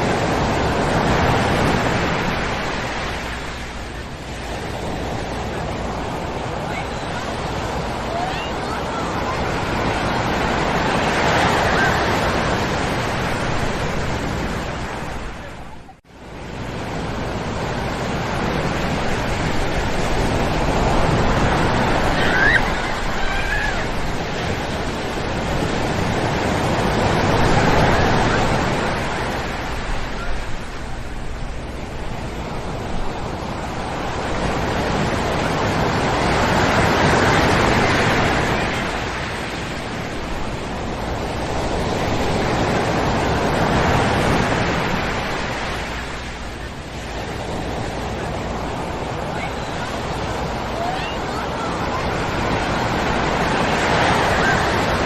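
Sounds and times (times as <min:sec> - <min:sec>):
ocean surf washing onto shore: 0:00.0 - 0:55.0.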